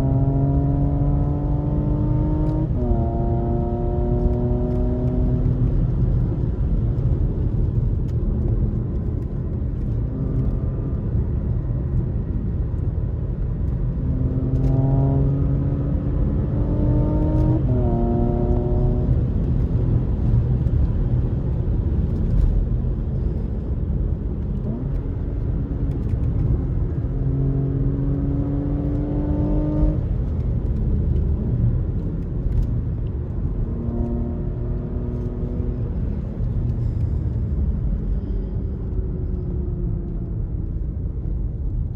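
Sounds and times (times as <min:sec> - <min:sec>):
car engine accelerating: 0:00.0 - 0:23.4, 0:24.0 - 0:41.8
road and wind rumble: 0:00.0 - 0:41.9.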